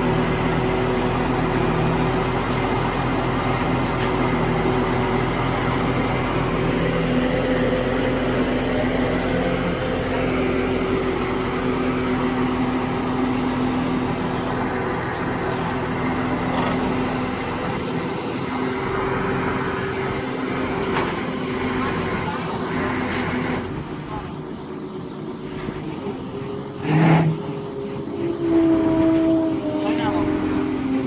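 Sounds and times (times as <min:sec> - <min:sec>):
large vehicle engine droning: 0:00.0 - 0:31.0.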